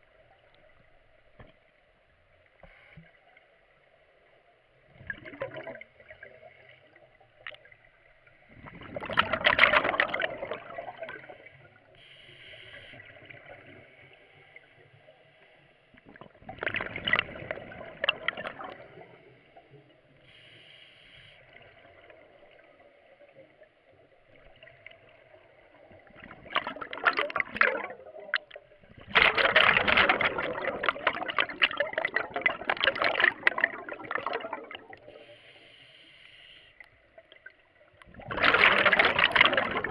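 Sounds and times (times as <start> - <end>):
scuba regulator bubbling: 5.0 - 14.5, 16.0 - 23.0, 24.3 - 39.9.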